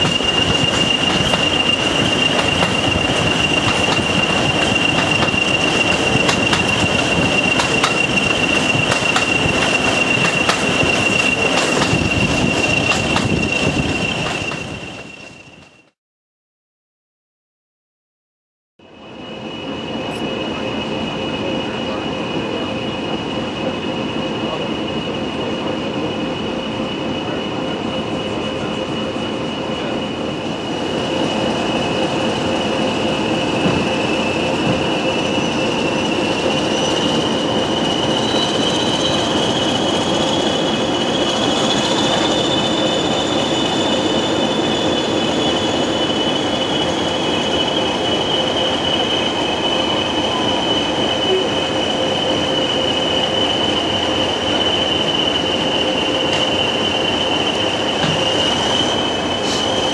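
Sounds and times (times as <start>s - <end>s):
diesel locomotive engines droning: 0.0s - 16.0s, 18.8s - 59.9s
train running noise: 0.0s - 16.0s, 18.8s - 59.9s.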